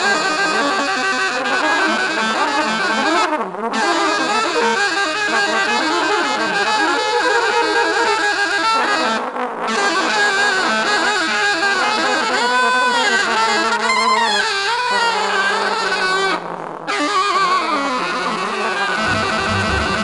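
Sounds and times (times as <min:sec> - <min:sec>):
free jazz saxophone: 0:00.0 - 0:20.0.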